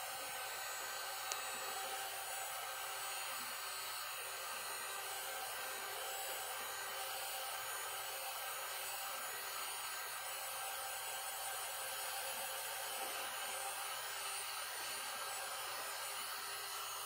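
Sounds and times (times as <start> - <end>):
faint steady whine: 0.0 - 17.0
heat gun blowing air: 0.0 - 17.0.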